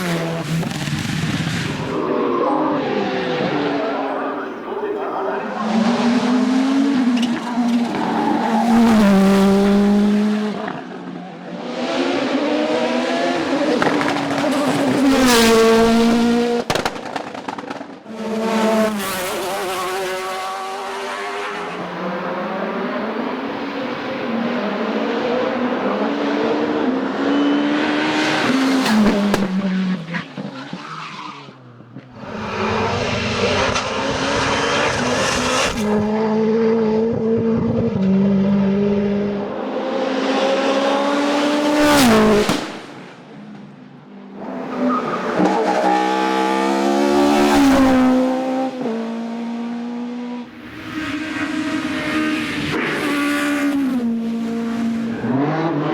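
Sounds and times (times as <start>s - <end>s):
race car engines at full throttle: 0.0s - 55.9s.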